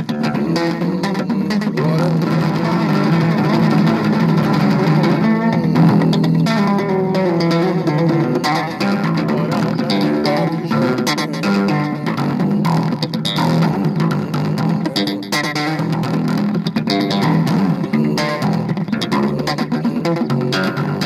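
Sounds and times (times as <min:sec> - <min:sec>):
electric bass guitar playing: 0:00.0 - 0:21.0.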